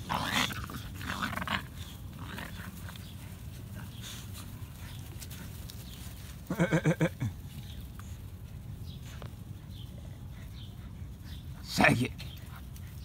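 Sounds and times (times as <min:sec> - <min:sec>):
dogs play-fighting: 0:00.0 - 0:13.0.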